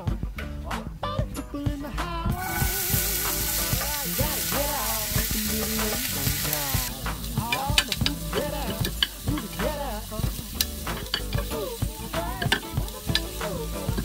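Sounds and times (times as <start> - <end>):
onions sizzling in frying pan: 2.3 - 14.0.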